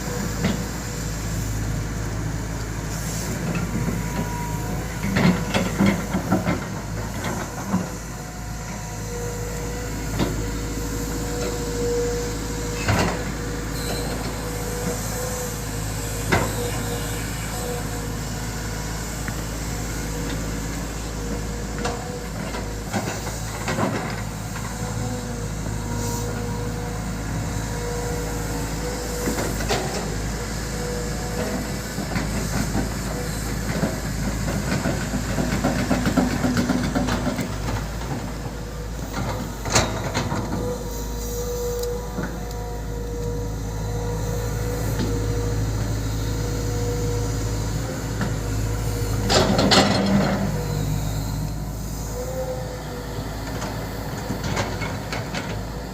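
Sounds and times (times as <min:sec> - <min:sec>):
excavator engine humming: 0:00.0 - 0:55.9.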